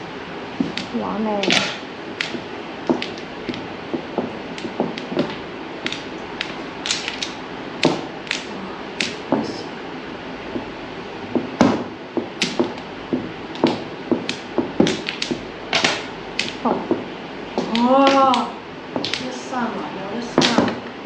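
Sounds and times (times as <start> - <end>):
mahjong tiles clacking: 0.6 - 9.7, 11.4 - 20.9.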